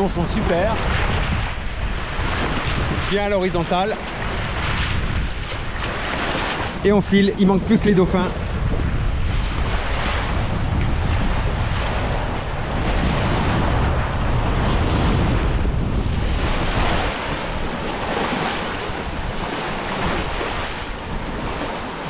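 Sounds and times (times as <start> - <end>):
sea water rushing along hulls: 0.0 - 22.0
wind buffeting microphone: 0.0 - 22.0.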